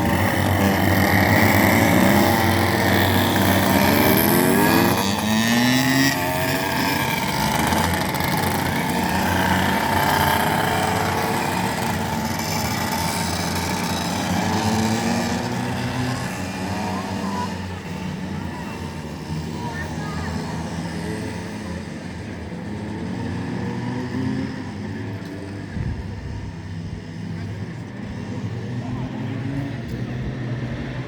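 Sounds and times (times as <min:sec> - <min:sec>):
go-kart engines revving: 0:00.0 - 0:31.0.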